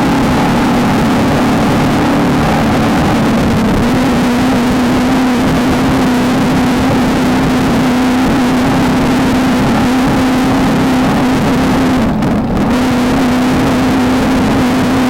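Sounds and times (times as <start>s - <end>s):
dense low rumble: 0.0s - 15.0s
race car engine running hard: 0.0s - 15.0s.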